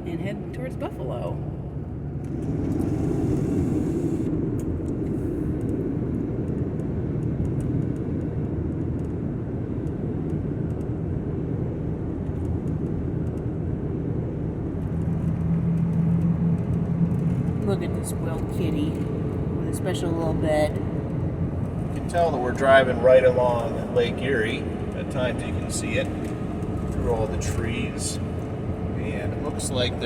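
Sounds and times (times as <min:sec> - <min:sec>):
van engine and road rumble: 0:00.0 - 0:30.0.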